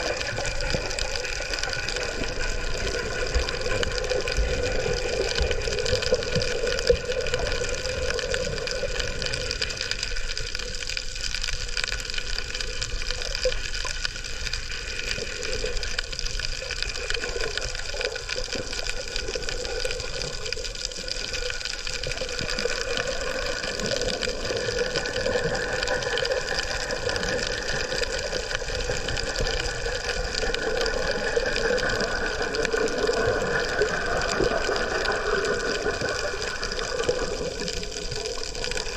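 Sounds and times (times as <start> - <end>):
muffled underwater rush: 0.0 - 38.9.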